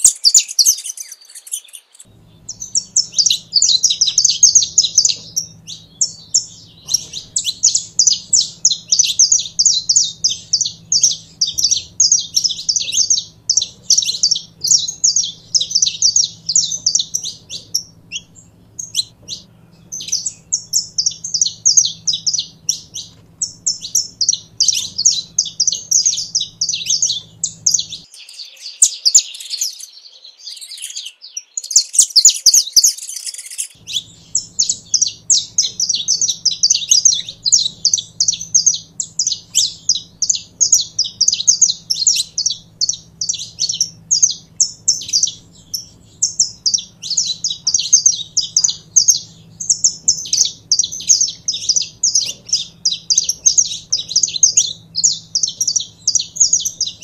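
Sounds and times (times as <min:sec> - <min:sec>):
finch singing sharp chipping notes: 0:00.0 - 0:57.0.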